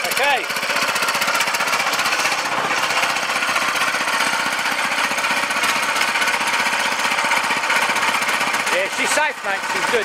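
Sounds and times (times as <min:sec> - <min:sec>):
petrol engine running: 0:00.0 - 0:10.0.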